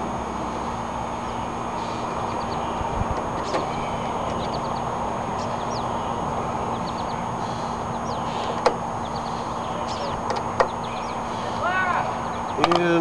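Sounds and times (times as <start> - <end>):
steady background hum: 0.0 - 13.0
small birds chirping: 0.4 - 13.0.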